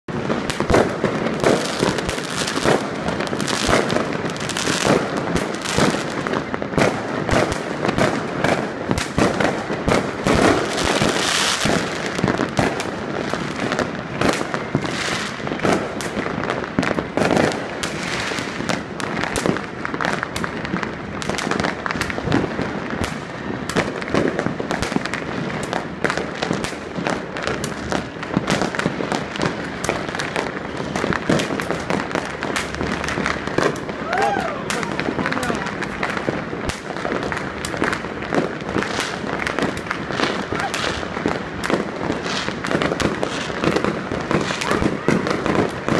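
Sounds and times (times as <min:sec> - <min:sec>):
fireworks and firecrackers banging: 0:00.0 - 0:45.9.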